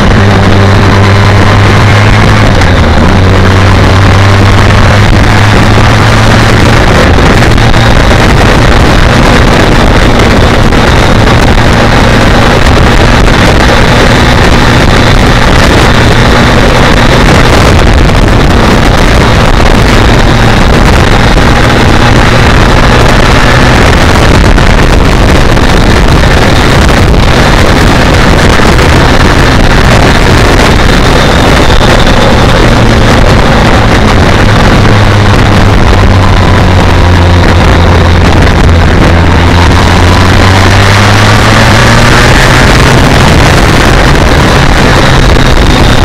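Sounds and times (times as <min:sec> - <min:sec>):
heavy wind rush: 0:00.0 - 0:46.0
motorcycle engine cruising: 0:00.0 - 0:46.0.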